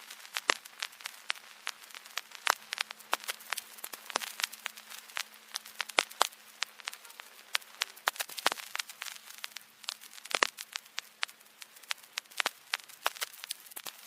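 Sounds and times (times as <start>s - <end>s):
faint hiss: 0.0s - 14.0s
faint steady hum: 0.0s - 14.0s
vinyl crackles and pops: 0.0s - 14.0s.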